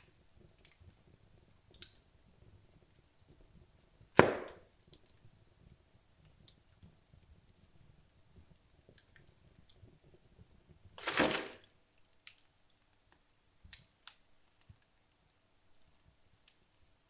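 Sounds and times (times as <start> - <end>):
logs crackling in a fireplace: 0.0 - 17.0.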